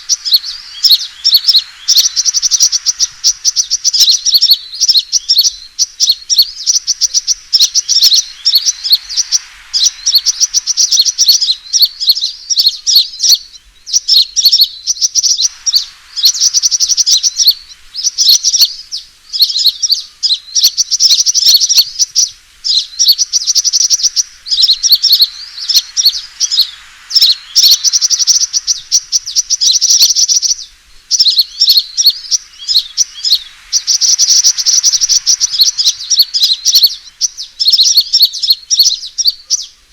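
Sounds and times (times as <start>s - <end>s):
bird twittering chirps: 0.0s - 39.9s.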